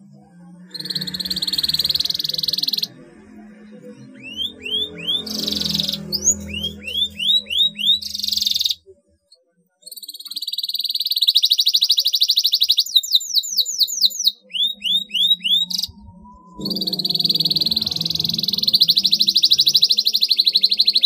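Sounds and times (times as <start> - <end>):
canary singing: 0.1 - 8.9, 9.8 - 21.0.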